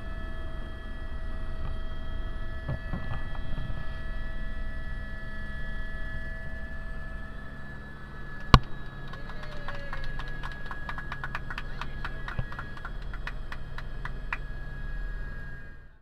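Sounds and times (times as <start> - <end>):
helicopter turbine whine: 0.0 - 16.0.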